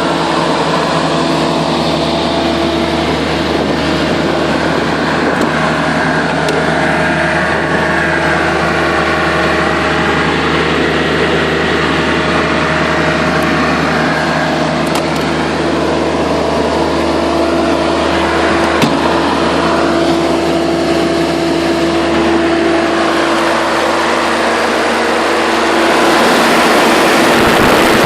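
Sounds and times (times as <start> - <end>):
generator engine humming: 0.0 - 28.0.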